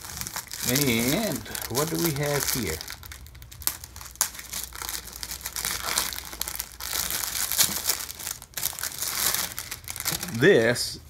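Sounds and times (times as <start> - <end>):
plastic wrapping crinkling: 0.0 - 10.7.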